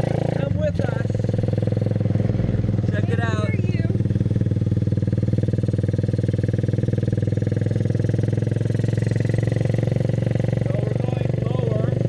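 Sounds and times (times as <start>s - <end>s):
small motorcycle engine droning: 0.0s - 12.0s.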